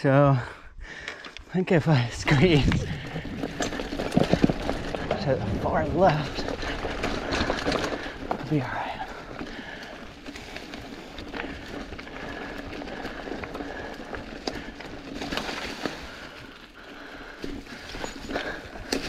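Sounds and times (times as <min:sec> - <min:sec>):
bike clicks and rattles: 0:00.9 - 0:19.0
bike tyres rolling over leaves: 0:01.1 - 0:19.0.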